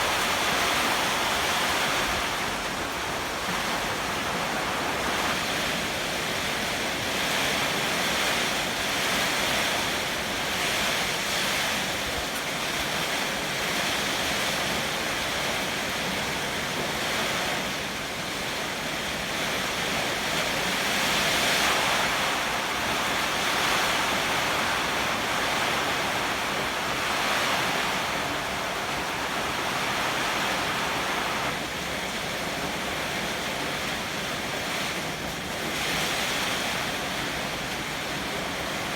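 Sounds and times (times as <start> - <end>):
heavy rain pouring: 0.0 - 38.9
strong wind: 0.0 - 38.9.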